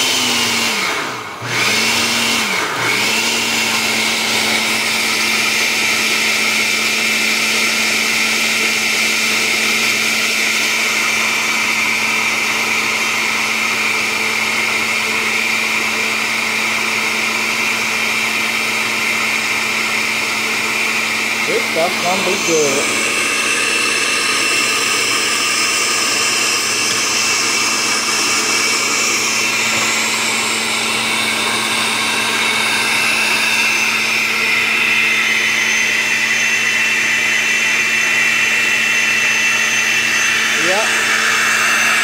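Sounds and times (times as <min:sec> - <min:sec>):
blender motor running: 0:00.0 - 0:42.0.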